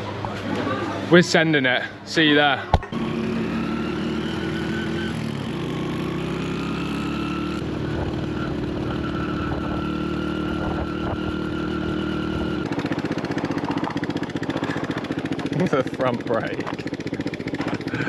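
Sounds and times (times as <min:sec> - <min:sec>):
motorcycle engine running: 0:02.6 - 0:18.0.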